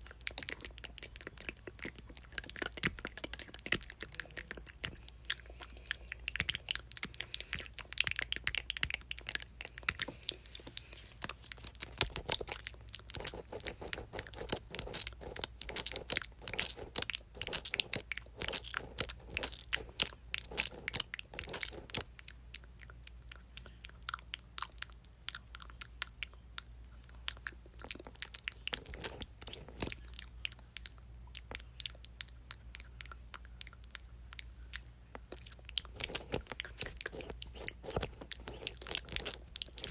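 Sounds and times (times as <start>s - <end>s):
lip and tongue clicks: 0.0s - 39.9s.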